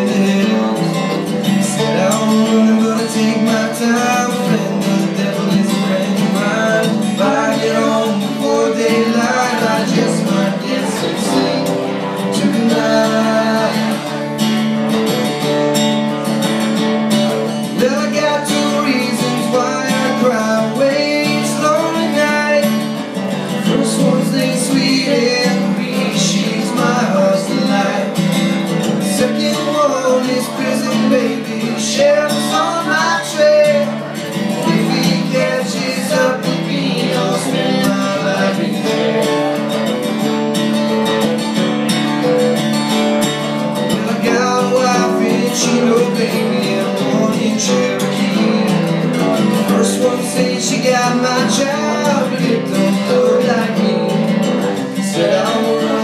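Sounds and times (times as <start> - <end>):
acoustic guitars playing: 0.0 - 56.0.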